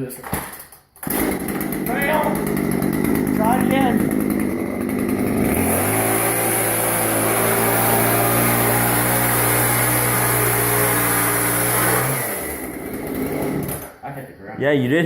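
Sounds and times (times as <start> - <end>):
angle grinder cutting metal: 1.1 - 14.0.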